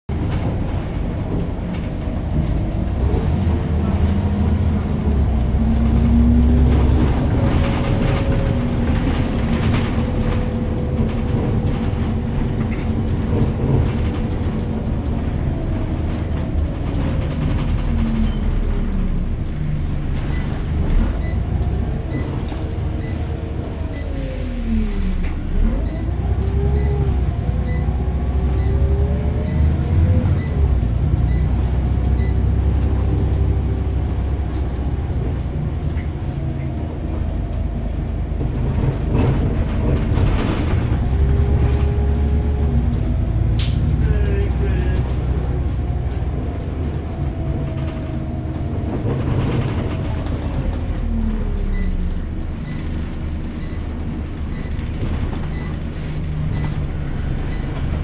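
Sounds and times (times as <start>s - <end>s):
bus engine rumble and whine: 0.0s - 58.0s.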